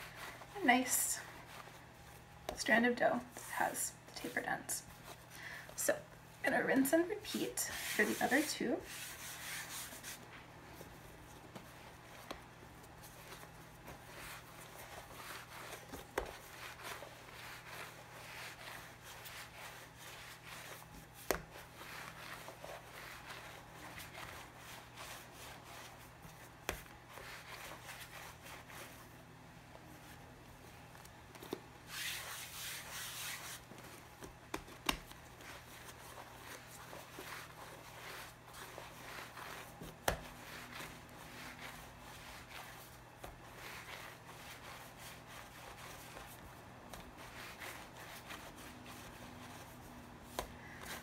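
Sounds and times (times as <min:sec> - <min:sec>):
hands rolling dough: 0:06.8 - 0:51.0.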